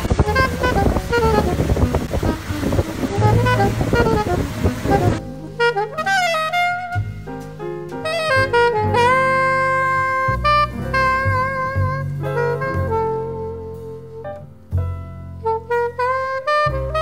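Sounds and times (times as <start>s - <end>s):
saxophone melody: 0.0s - 14.6s, 15.2s - 17.0s
low bass line: 0.0s - 17.0s.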